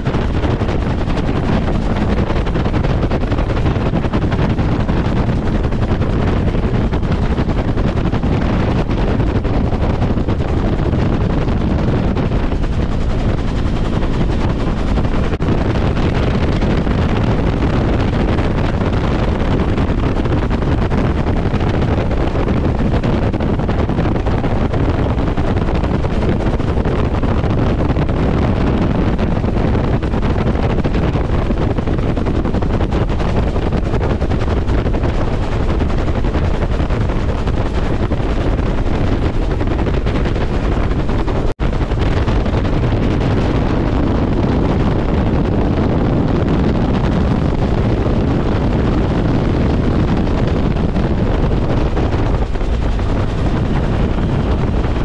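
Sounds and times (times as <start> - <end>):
helicopter turbine and rotor noise: 0.0 - 55.0
wind rushing over microphone: 0.0 - 55.0.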